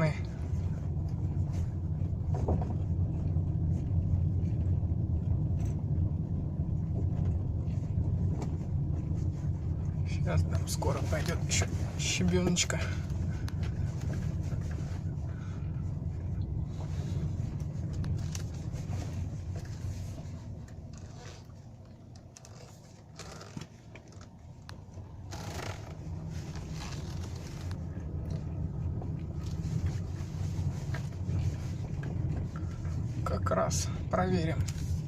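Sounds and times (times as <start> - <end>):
car cabin road rumble: 0.0 - 35.0.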